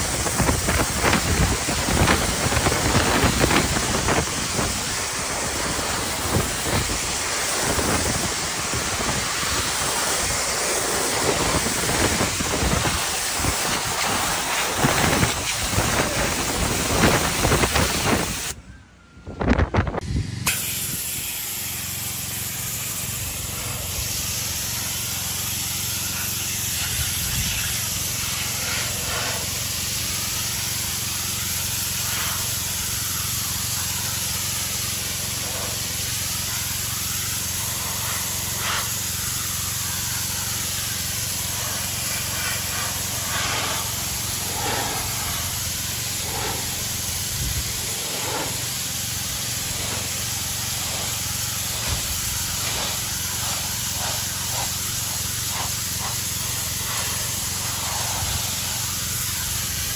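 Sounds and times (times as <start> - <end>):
pressure washer humming: 0.0 - 18.6, 20.0 - 59.9
water jet hissing: 0.0 - 18.6, 20.5 - 59.9.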